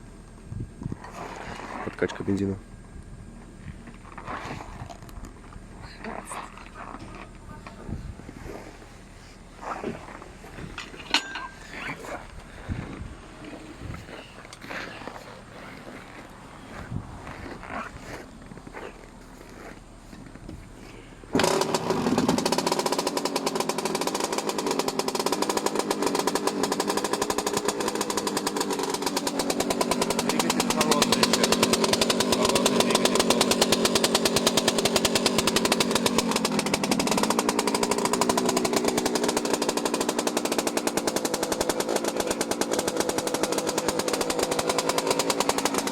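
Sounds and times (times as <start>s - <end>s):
two-stroke engine running: 0.0s - 45.9s.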